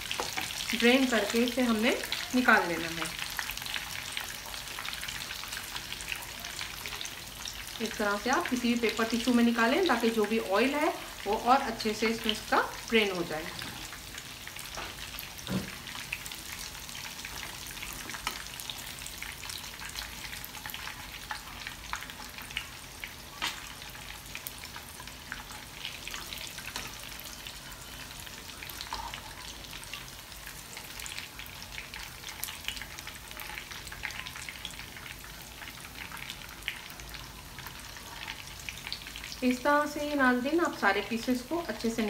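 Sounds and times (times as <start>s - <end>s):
meat sizzling in frying oil: 0.0s - 42.0s.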